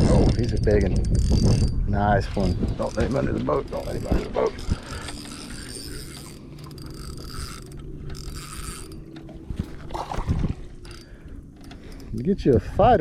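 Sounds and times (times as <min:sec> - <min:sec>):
fishing reel being cranked: 0:00.0 - 0:13.0.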